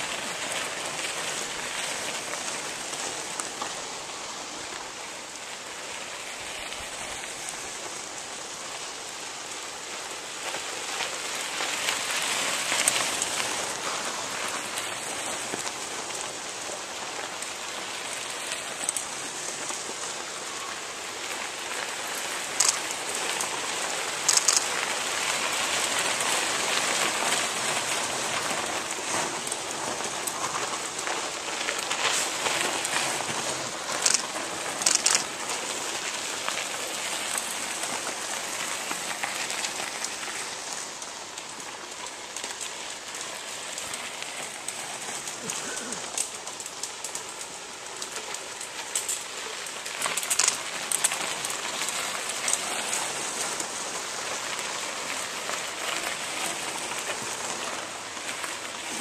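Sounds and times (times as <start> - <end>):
bike tyres crackling over gravel: 0.0 - 59.0.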